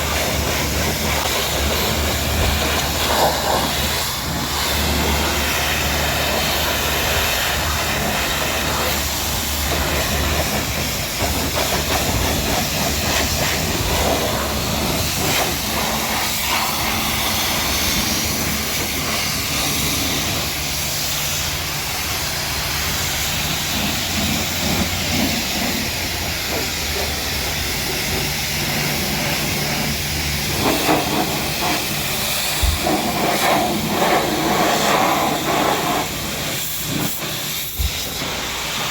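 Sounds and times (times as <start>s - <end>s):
pressure washer spraying water: 0.0s - 38.9s
pump motor hum: 0.0s - 38.9s.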